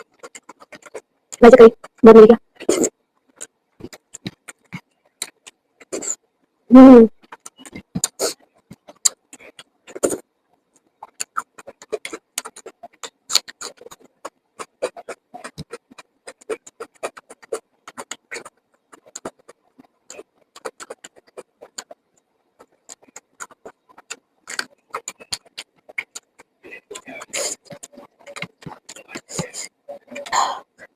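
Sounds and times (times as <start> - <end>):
chewing and lip smacking: 2.6 - 6.2, 7.2 - 10.2, 10.8 - 30.4.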